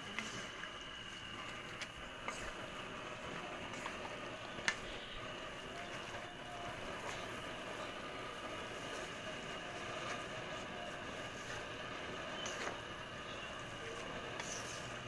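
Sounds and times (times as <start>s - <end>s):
steady hiss: 0.0s - 15.0s
wooden spatula stirring pasta: 0.0s - 15.0s.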